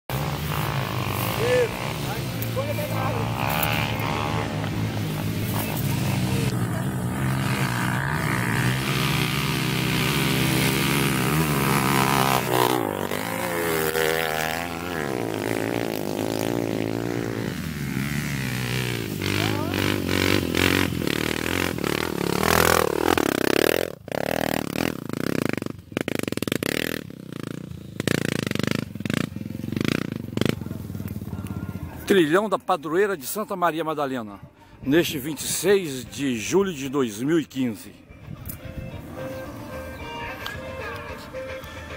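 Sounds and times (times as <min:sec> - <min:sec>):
dirt bike engines revving: 0:00.1 - 0:41.9.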